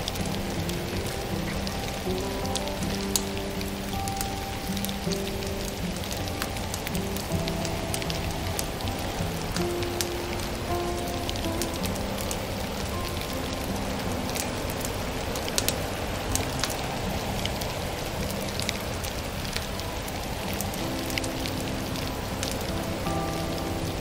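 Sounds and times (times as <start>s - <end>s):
fire popping: 0.0s - 24.0s
soft held music notes: 0.0s - 24.0s
steady hiss: 0.0s - 24.0s
wood fire crackling: 0.0s - 24.0s.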